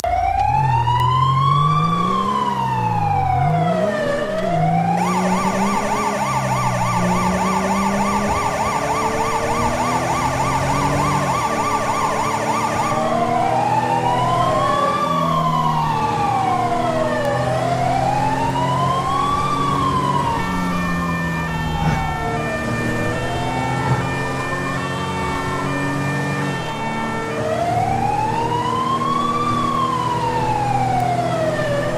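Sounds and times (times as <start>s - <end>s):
car engine revving: 0.0s - 31.9s
police siren: 0.0s - 31.9s.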